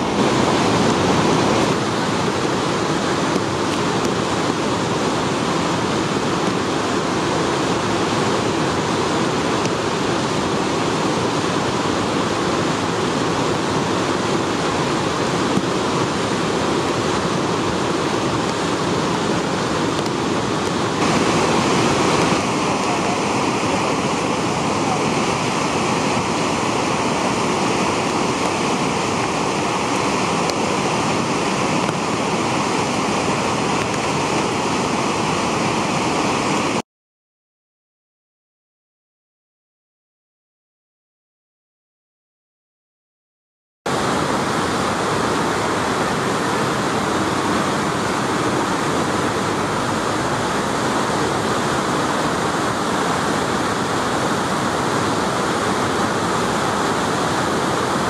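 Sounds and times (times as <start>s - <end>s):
river rushing over falls: 0.0s - 36.8s, 43.9s - 58.0s.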